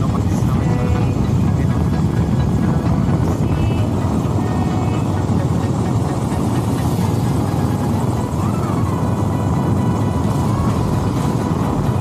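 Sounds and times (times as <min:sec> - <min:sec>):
vehicle engine and road noise: 0:00.0 - 0:12.0
wind buffeting microphone: 0:00.0 - 0:12.0.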